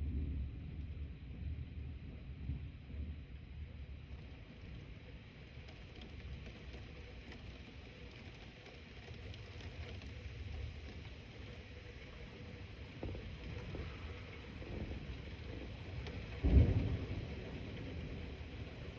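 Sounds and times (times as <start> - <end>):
low steady thunder rumble: 0.0 - 18.9.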